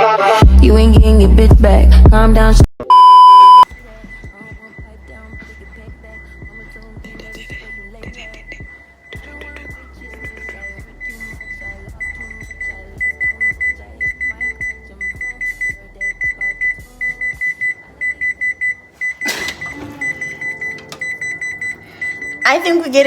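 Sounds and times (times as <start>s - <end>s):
timer alarm beeping: 2.9s - 23.0s
faint music: 3.7s - 23.0s.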